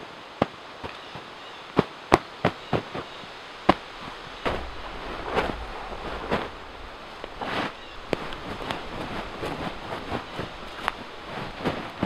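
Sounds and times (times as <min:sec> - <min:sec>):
leaves and canvas rustling: 0:00.0 - 0:12.0.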